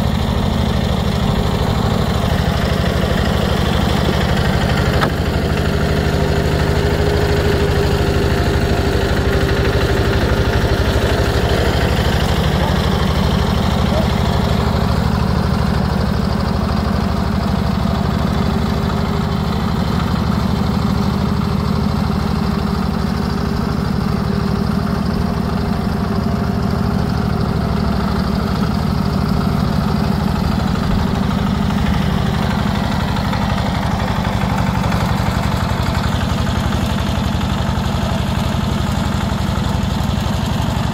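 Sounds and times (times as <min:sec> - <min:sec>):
tractor engine running at low revs: 0:00.0 - 0:40.9.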